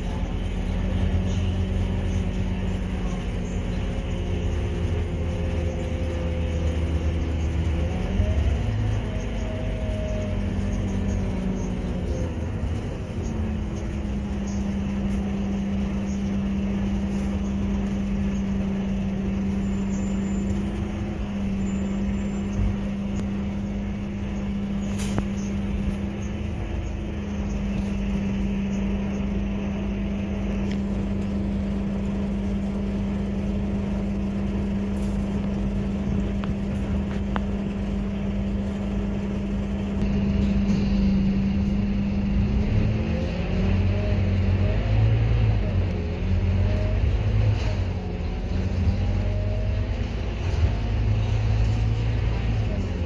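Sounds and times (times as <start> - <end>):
bus engine hum: 0.0 - 53.0
road rumble: 0.0 - 53.0.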